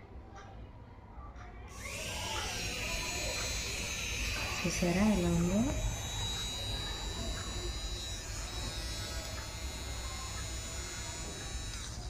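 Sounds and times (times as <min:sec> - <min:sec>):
milk frother motor humming: 0:01.7 - 0:12.0.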